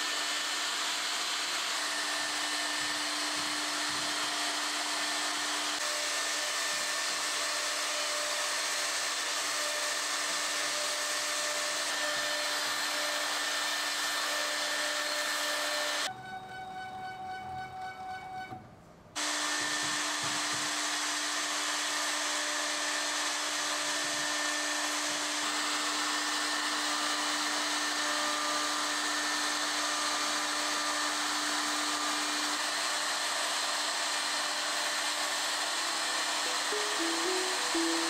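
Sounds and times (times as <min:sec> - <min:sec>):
router whining and cutting wood: 0:00.0 - 0:16.1, 0:19.2 - 0:38.0.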